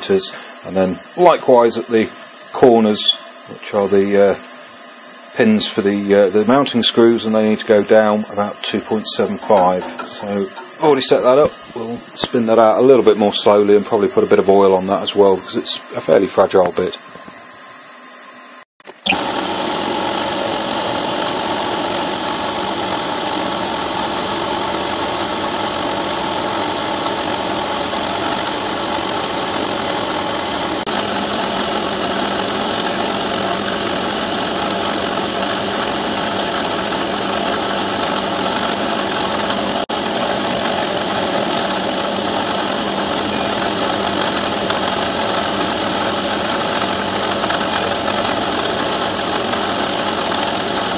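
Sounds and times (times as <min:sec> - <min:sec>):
milling machine spindle running: 0:00.0 - 0:17.4, 0:18.9 - 0:50.9
end mill cutting metal: 0:05.4 - 0:16.9, 0:18.9 - 0:50.9.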